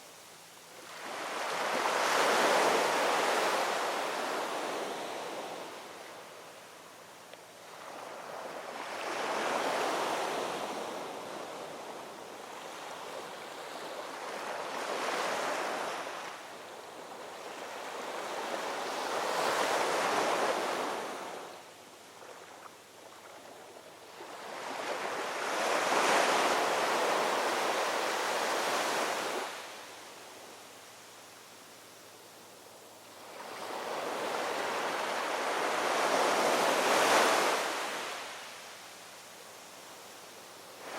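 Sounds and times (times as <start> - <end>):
ocean waves rolling onto shore: 0.7 - 40.9.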